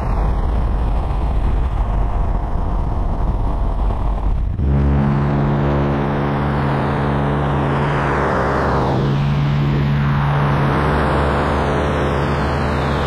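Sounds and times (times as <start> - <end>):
propeller aircraft engine: 0.0 - 13.0.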